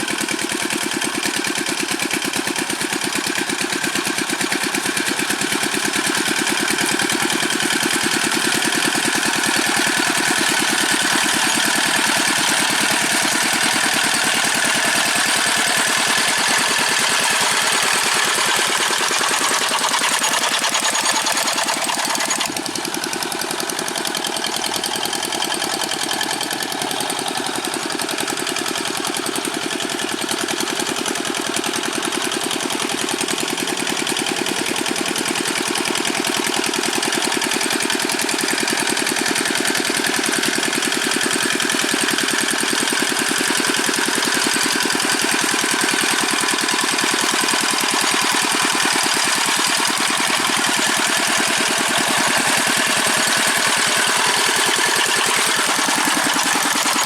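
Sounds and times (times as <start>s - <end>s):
diesel engine knocking steadily: 0.0s - 57.0s.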